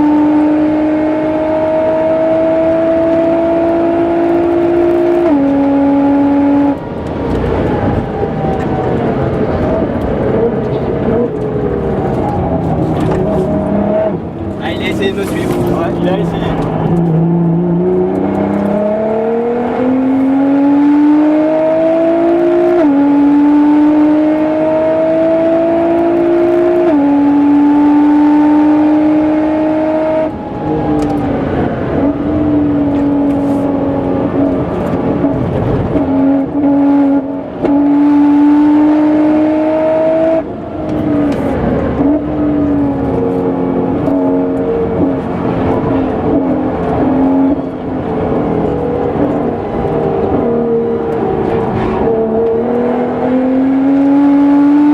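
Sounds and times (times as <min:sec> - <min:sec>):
car engine accelerating with upshifts: 0:00.0 - 0:54.9.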